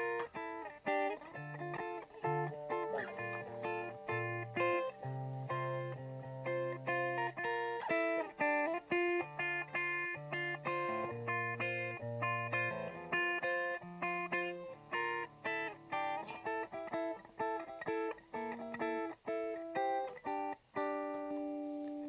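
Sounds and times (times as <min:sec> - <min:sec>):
electric guitar strumming chords: 0:00.0 - 0:22.0.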